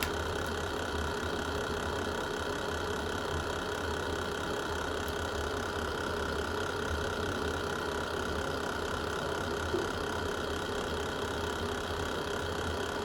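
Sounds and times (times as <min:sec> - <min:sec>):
fire burning in fireplace: 0:00.0 - 0:13.0.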